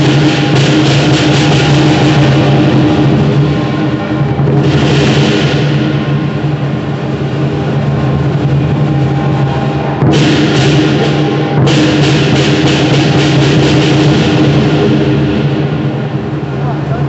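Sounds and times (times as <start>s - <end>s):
big drum beating: 0.0s - 17.0s
cymbals clashing: 0.0s - 17.0s.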